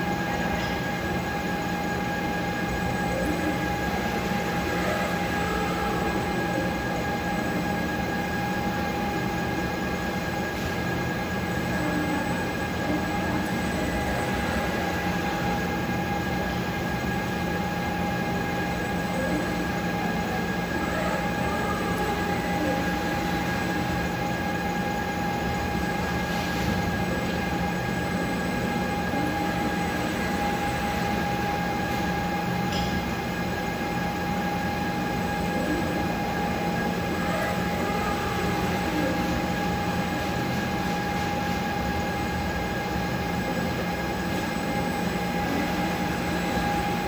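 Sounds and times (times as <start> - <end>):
machinery mechanical drone: 0.0 - 47.0
steady machine whine: 0.0 - 47.0.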